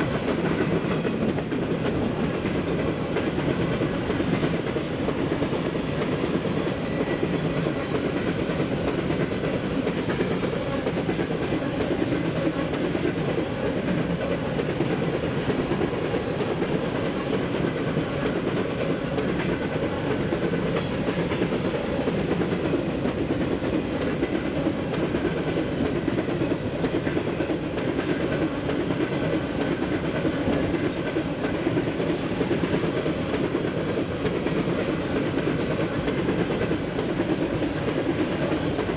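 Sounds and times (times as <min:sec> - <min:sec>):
wheels clacking on rails: 0:00.0 - 0:38.9.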